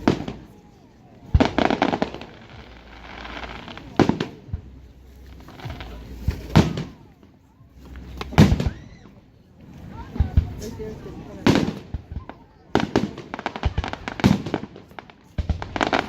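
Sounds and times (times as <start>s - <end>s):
fireworks bangs: 0.0s - 9.2s, 9.8s - 16.0s
fireworks crackling: 0.0s - 16.0s.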